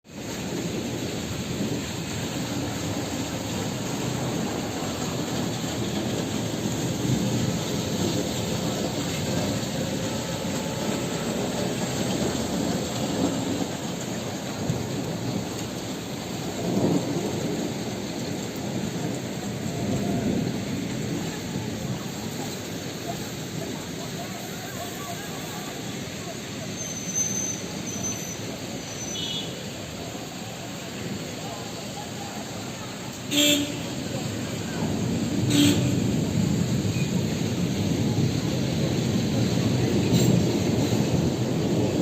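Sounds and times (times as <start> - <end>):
heavy rain pouring: 0.0 - 42.0
thunder rumbling: 0.1 - 42.0.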